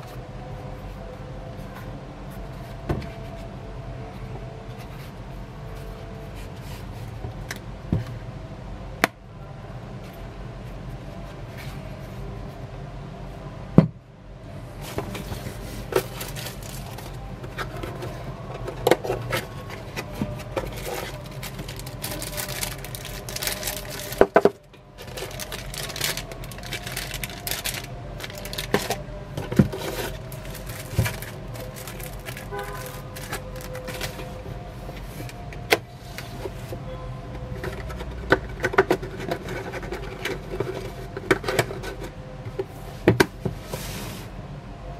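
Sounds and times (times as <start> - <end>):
cardboard and plastic rustling: 0.0 - 8.2, 14.8 - 44.4.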